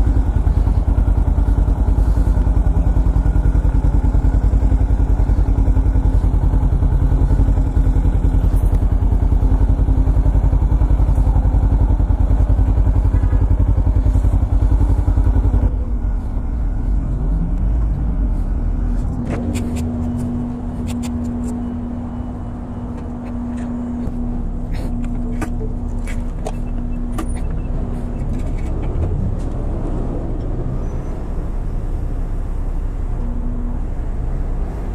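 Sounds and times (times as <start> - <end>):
motorcycle engine running: 0.0 - 29.6.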